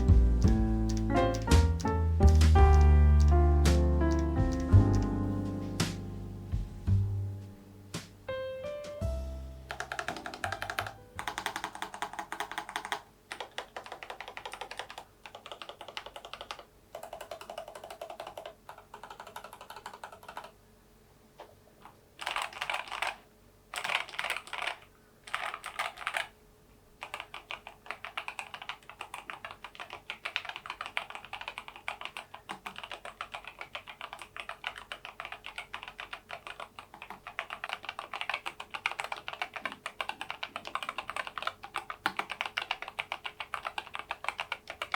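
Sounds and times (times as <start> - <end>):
light keyboard keystrokes: 0.0 - 6.0, 9.7 - 20.6, 21.4 - 26.3, 27.0 - 44.9.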